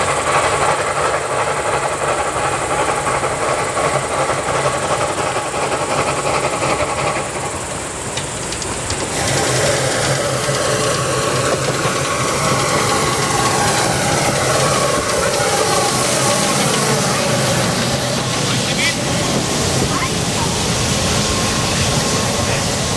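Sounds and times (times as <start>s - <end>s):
steam hissing: 0.0s - 22.9s
steam locomotive exhaust chuffing: 0.0s - 22.9s
train running noise: 0.0s - 22.9s.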